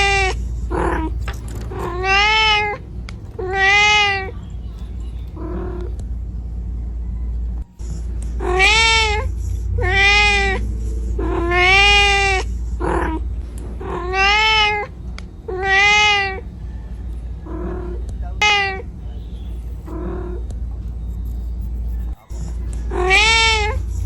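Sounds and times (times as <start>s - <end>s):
kitten meowing: 0.0s - 6.0s, 8.4s - 13.2s, 13.8s - 16.6s, 17.4s - 24.0s
low hum: 0.0s - 24.0s.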